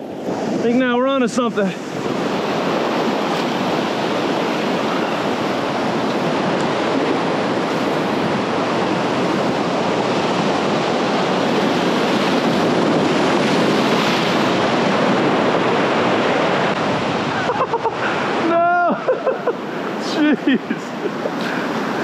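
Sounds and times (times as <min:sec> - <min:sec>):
waves breaking on rocks: 0:00.1 - 0:22.0.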